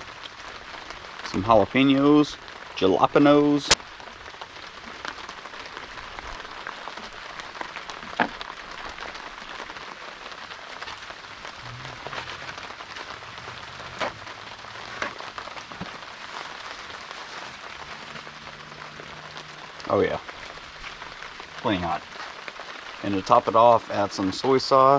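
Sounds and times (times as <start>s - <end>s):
pouring rain: 0.0s - 24.9s.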